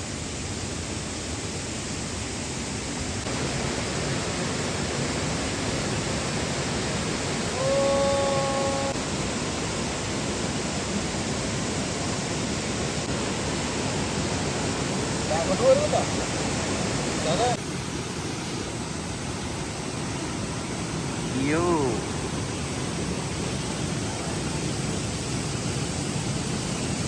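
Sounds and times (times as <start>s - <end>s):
falling water rushing: 0.0s - 27.0s.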